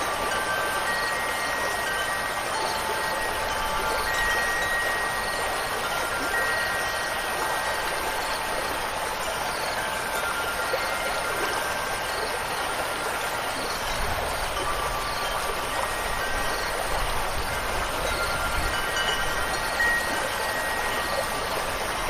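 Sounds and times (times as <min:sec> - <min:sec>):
rushing water: 0:00.0 - 0:22.0
wind chime notes: 0:00.0 - 0:22.0.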